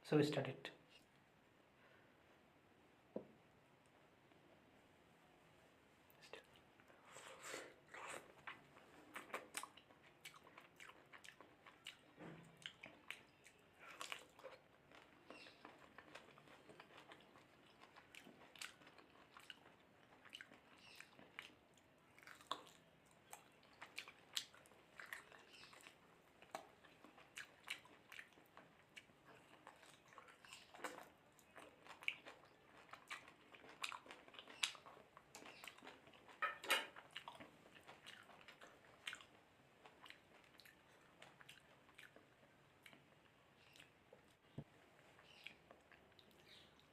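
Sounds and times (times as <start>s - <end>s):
person chewing: 6.4s - 46.9s.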